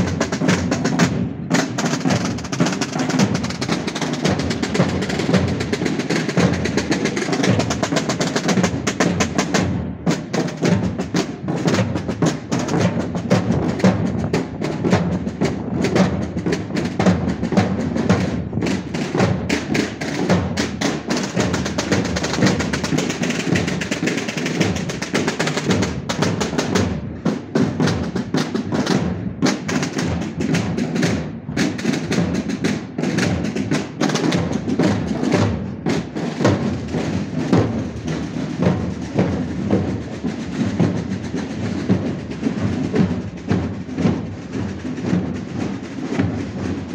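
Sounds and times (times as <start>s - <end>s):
bass drums beaten with mallets: 0.0s - 46.9s
drum band marching beat: 0.0s - 46.9s.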